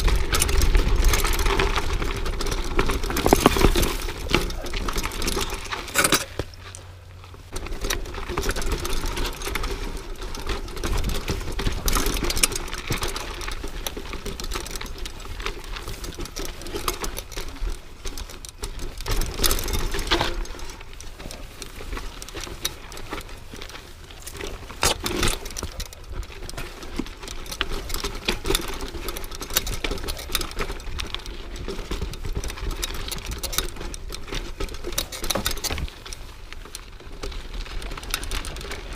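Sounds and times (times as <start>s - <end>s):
bike rattling over bumps: 0.0s - 38.9s
bike tyres rolling on dirt: 0.0s - 38.9s.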